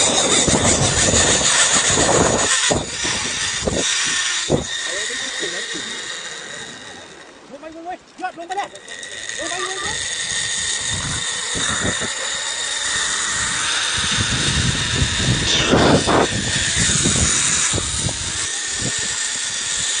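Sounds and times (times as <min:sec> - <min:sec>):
wind buffeting microphone: 0:00.0 - 0:05.8, 0:09.6 - 0:20.0
zip-line pulleys whining on cable: 0:00.0 - 0:20.0.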